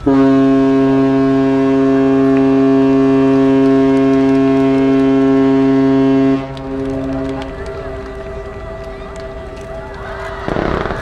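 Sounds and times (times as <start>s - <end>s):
ship's horn blast: 0.0s - 11.0s.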